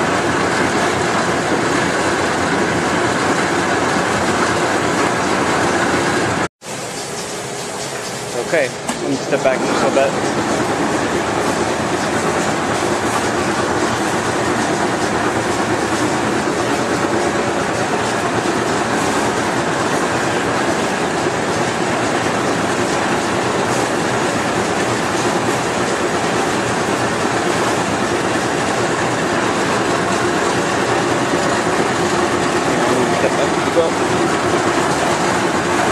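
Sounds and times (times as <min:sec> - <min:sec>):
machine gearing running: 0:00.0 - 0:35.9.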